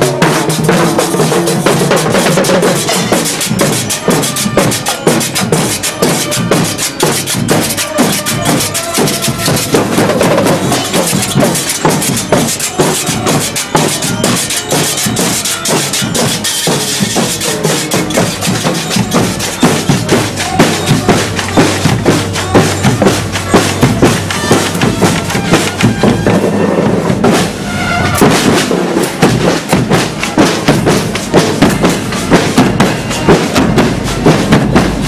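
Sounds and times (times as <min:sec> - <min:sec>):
snare and bass drums marching: 0:00.0 - 0:35.0
hand cymbals crashing: 0:01.8 - 0:35.0.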